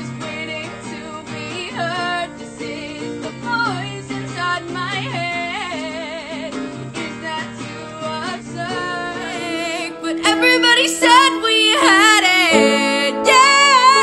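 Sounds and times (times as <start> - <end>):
acoustic guitar: 0.0 - 14.0
girl singing with vibrato: 0.0 - 14.0.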